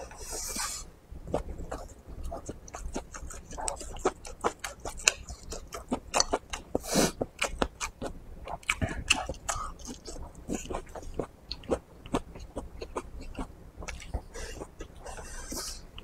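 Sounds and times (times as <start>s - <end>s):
chewing with wet mouth clicks: 1.3s - 16.0s.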